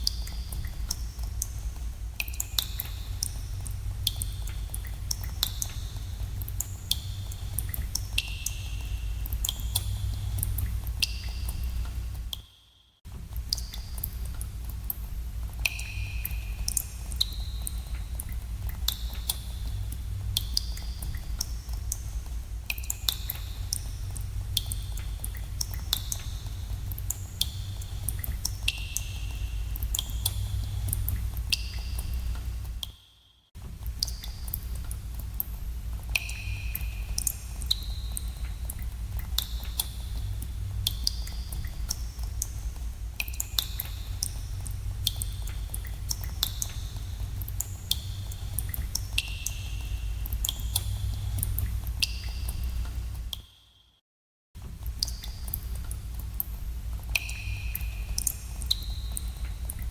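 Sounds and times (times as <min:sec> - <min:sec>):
steady low rumble: 0:00.0 - 0:12.4, 0:13.1 - 0:32.8, 0:33.6 - 0:53.4
water drops plinking into pools: 0:02.2 - 0:12.5, 0:13.3 - 0:33.0, 0:33.8 - 0:53.5, 0:54.8 - 0:59.9.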